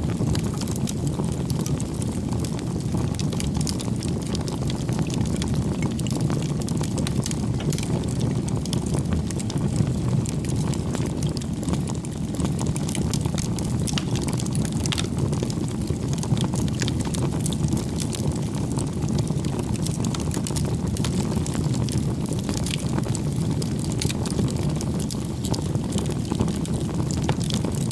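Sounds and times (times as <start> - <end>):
burning wood crackling: 0.0 - 27.9
low rumble of flames: 0.0 - 27.9.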